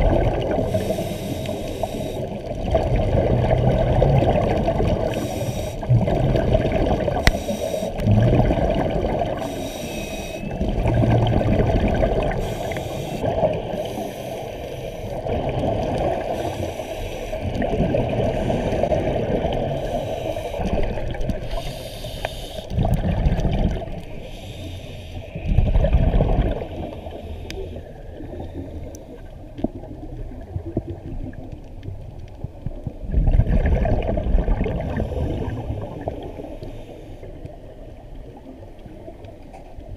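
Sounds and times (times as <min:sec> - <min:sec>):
underwater bubbles gurgling: 0:00.0 - 0:39.9
steady watery hiss: 0:00.2 - 0:29.6, 0:34.7 - 0:39.9.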